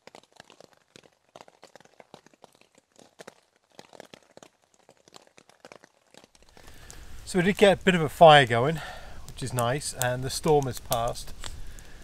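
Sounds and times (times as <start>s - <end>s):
raindrops tapping on tent fabric: 0.0s - 12.0s.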